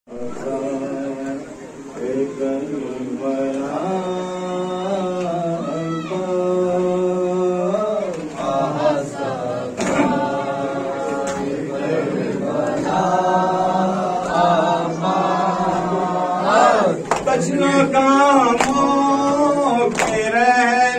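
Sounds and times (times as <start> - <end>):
men chanting a lament: 0.1 - 20.9.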